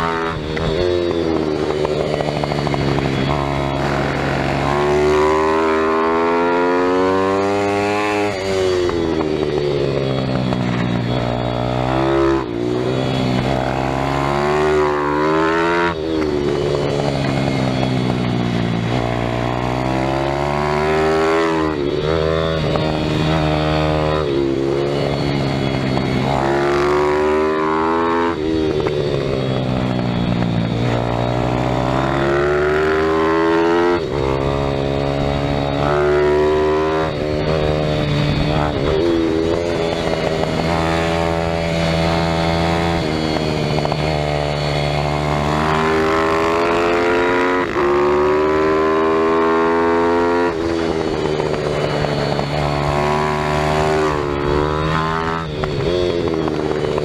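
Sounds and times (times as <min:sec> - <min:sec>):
small motorbike engine revving: 0:00.0 - 0:57.0.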